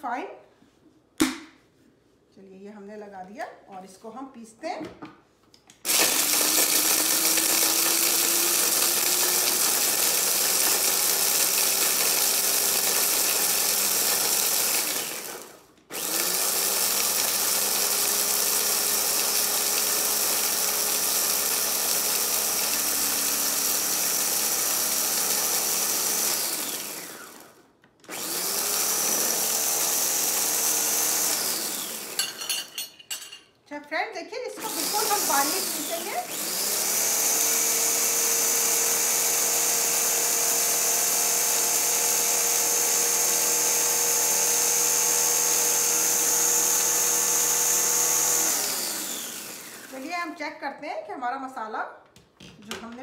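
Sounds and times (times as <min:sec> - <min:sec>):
electric chopper grinding spices: 0:05.8 - 0:32.8, 0:34.6 - 0:50.3.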